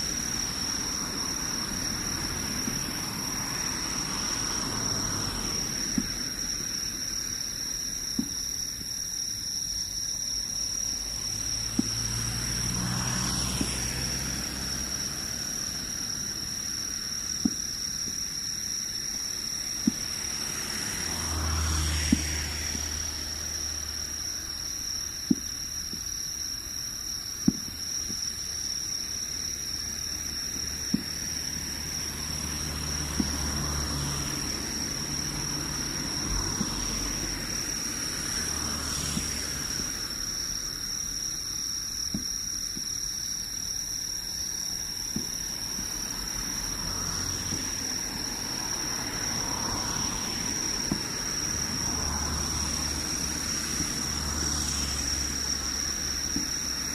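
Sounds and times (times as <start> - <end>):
vehicles passing: 0.0 - 8.4, 9.8 - 42.2, 43.6 - 56.9.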